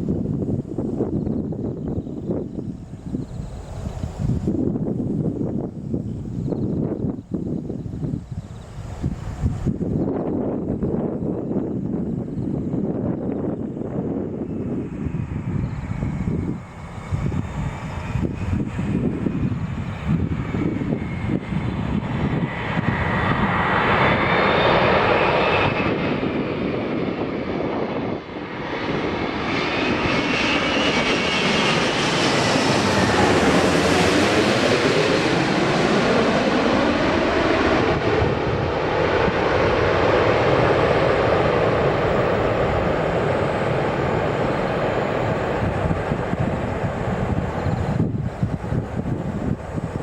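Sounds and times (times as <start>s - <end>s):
jet airliner roaring past: 0.0s - 50.0s.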